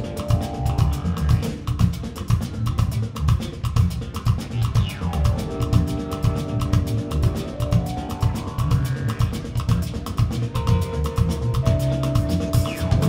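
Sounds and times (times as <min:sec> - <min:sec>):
drum kit steady beat: 0:00.0 - 0:13.0
live band playing: 0:00.0 - 0:13.0.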